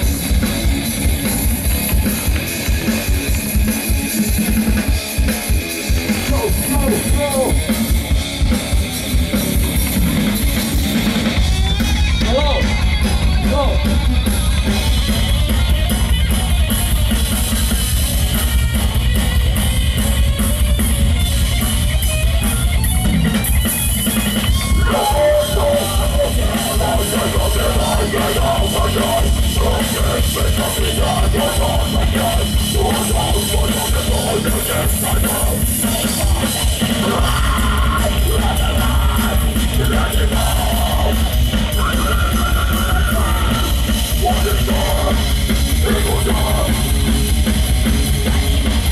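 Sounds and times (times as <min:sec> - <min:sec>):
heavy metal band playing live: 0:00.0 - 0:48.9.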